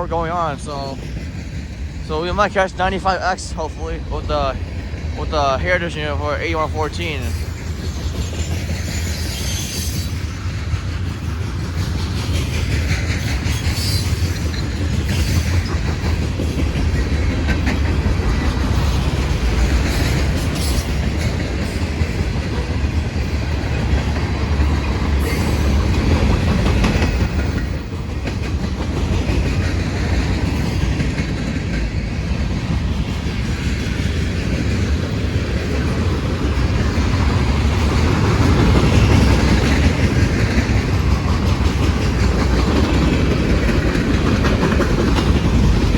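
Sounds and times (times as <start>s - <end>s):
train wheels clacking over rail joints: 0.0s - 45.9s.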